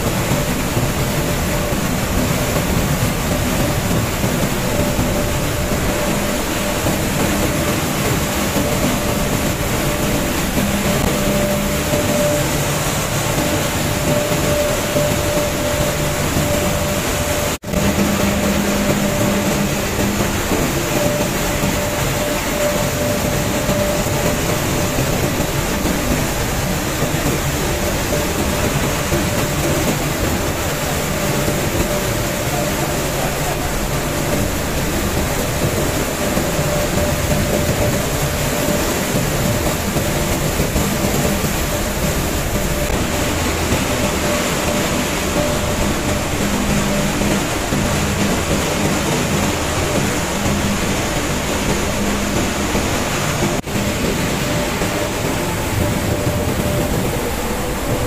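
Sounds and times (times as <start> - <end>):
high whine: 0.0 - 58.0
machinery hum: 0.0 - 58.0
mill machinery din: 0.0 - 58.0.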